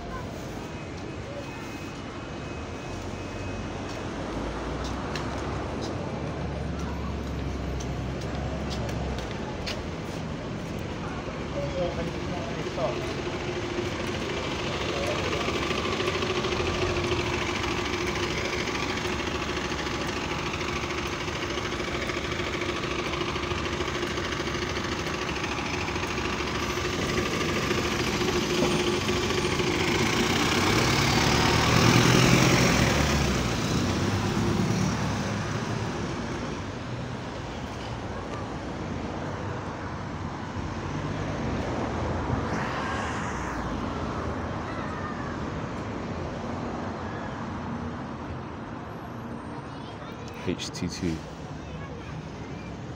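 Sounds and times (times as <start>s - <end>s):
diesel bus engine: 0.0s - 52.9s
passing traffic: 0.0s - 52.9s.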